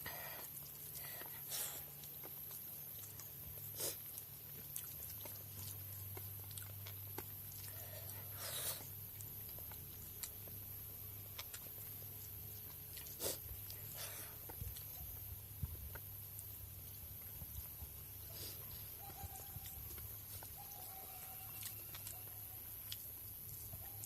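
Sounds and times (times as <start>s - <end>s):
chewing and mouth clicks: 0.0s - 24.0s.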